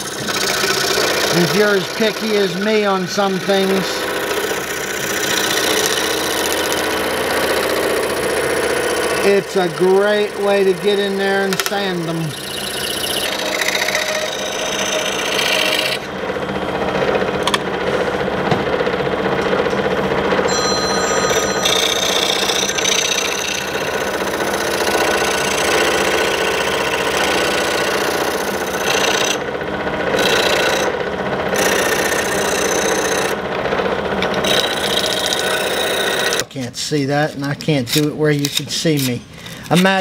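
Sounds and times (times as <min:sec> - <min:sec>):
scroll saw hum: 0:00.0 - 0:40.0.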